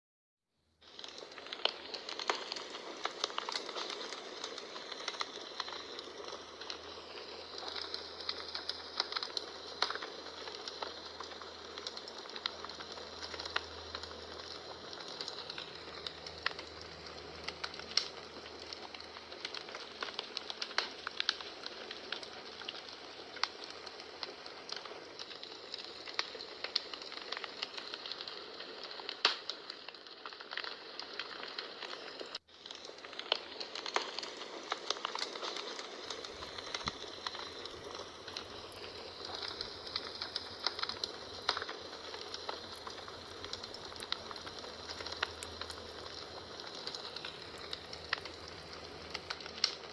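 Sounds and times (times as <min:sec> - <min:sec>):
fireplace fire crackling: 0:00.6 - 0:49.9
soft fire hiss: 0:00.8 - 0:49.9.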